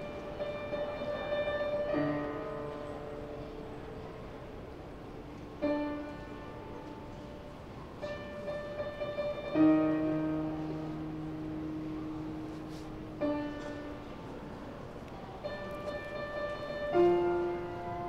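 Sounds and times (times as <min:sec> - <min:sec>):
solo piano chords: 0:00.0 - 0:18.0.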